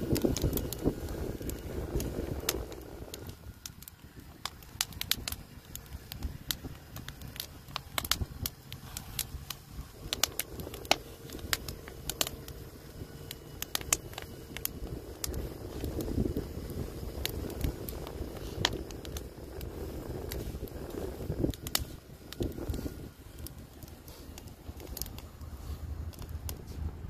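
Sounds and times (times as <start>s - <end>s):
wind rumble on microphone: 0.0s - 27.0s
wood fire crackling and popping: 0.0s - 27.0s.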